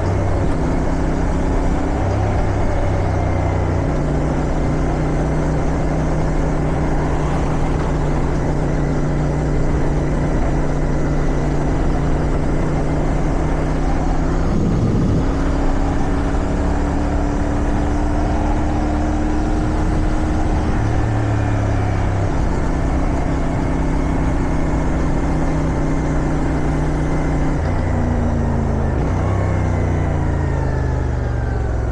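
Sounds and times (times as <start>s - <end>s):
wind noise on microphone: 0.0s - 27.9s
motorcycle engine running: 0.0s - 31.9s.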